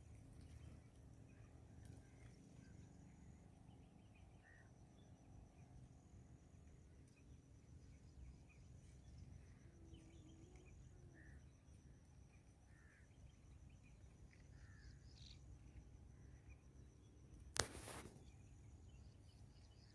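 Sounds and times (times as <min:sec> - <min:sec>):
faint bird chirps: 0:00.0 - 0:19.9.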